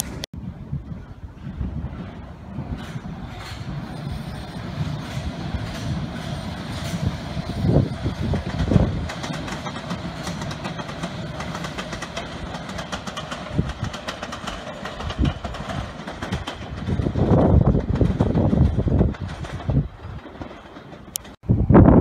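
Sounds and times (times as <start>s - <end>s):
train rumbling past: 0.0s - 22.0s
wheels clattering over rail joints: 0.9s - 21.4s.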